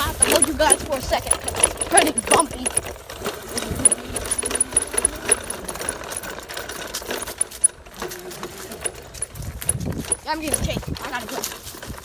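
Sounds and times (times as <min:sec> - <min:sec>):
dirt bike mechanical clatter: 0:00.0 - 0:12.0.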